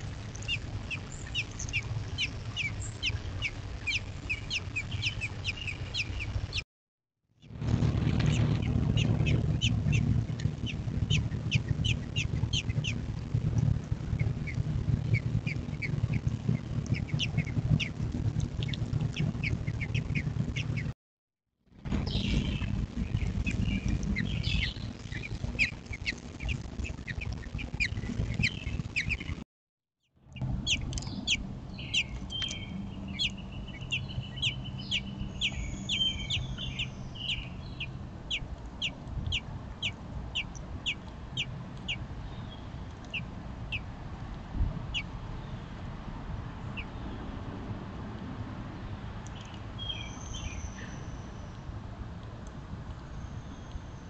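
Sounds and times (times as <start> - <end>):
nestlings peeping: 0.0 - 6.6, 7.9 - 21.0, 21.9 - 29.4, 30.3 - 43.9, 44.9 - 45.1, 46.7 - 46.9, 49.3 - 51.5
steady low rumble: 0.0 - 6.6, 7.4 - 21.0, 21.7 - 29.4, 30.2 - 54.0.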